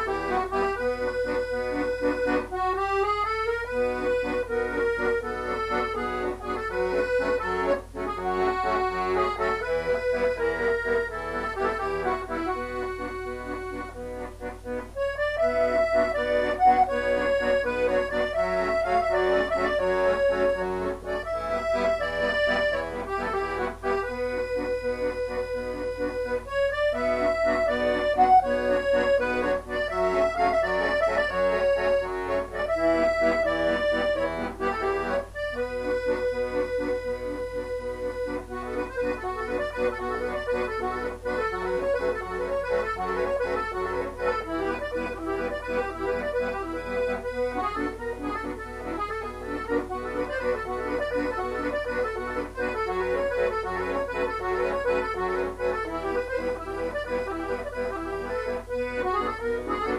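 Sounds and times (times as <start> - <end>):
accordion playing a waltz: 0.0 - 59.9.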